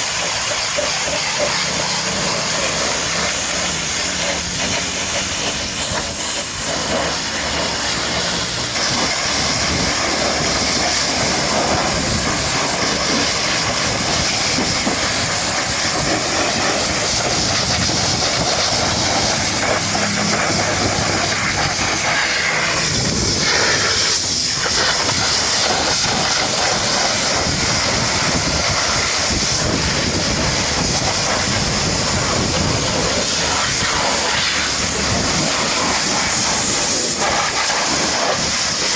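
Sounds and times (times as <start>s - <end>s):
pressure washer jet spraying water: 0.0s - 38.9s.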